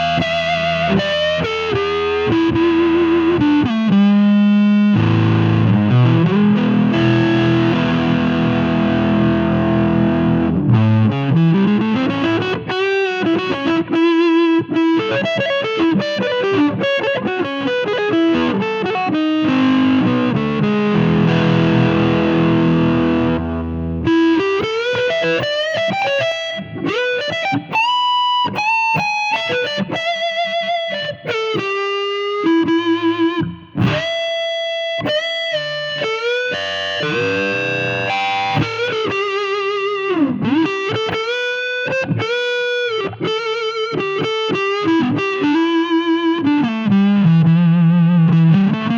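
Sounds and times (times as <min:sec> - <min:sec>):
fuzzy electric guitar: 0:00.0 - 0:48.9.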